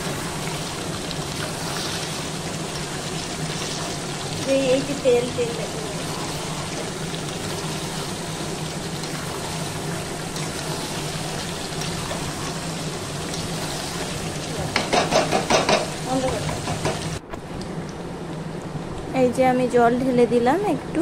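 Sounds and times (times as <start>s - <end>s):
food frying in oil: 0.0s - 21.0s.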